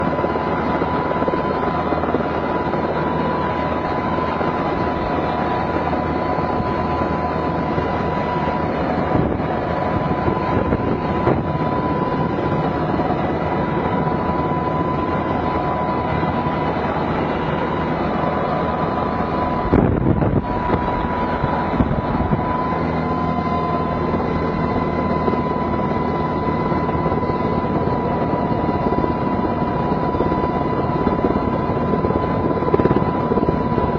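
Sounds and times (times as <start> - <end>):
helicopter engine and rotor: 0.0 - 33.9.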